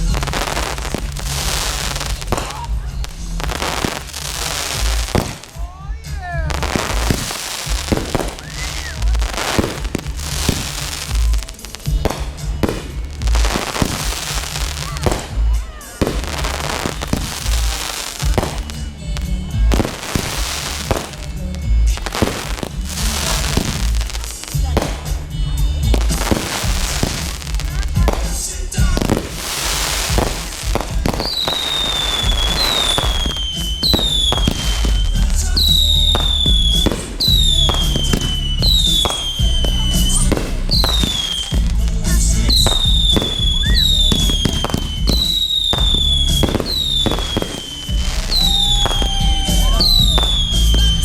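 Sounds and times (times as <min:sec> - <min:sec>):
firework booms: 0:00.0 - 0:51.0
firework cracks and crackling: 0:00.0 - 0:51.0
music: 0:00.0 - 0:51.0.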